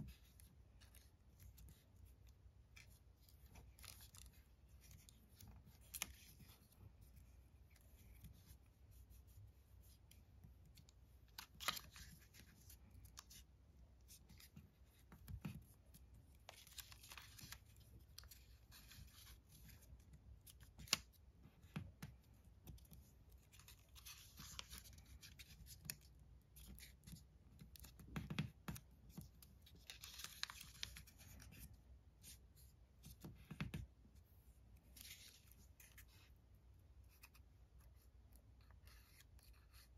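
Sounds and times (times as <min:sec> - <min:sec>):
paper rustling and crinkling: 0:00.0 - 0:33.8, 0:34.8 - 0:36.3.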